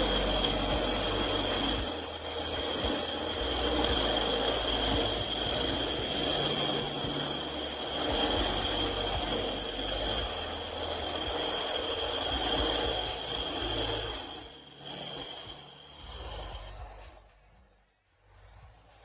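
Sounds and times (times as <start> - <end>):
shop machinery whining and rumbling: 0.0 - 19.0.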